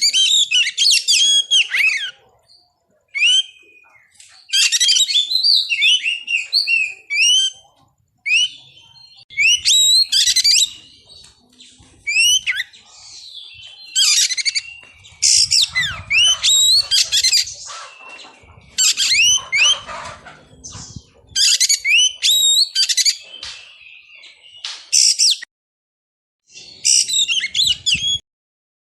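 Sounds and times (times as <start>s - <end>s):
bird singing: 0.0s - 25.5s, 26.5s - 28.2s.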